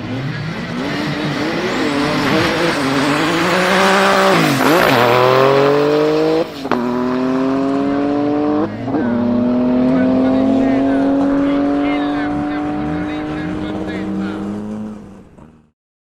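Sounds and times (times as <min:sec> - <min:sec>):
gear change: 0:00.0 - 0:15.6
car engine accelerating hard: 0:00.0 - 0:15.7.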